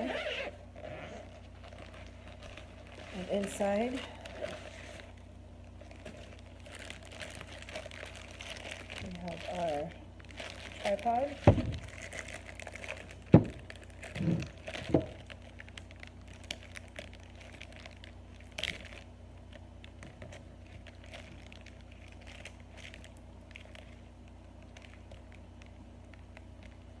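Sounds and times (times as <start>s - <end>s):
packaging crinkle: 0.0s - 27.0s
packaging rustling: 0.0s - 27.0s.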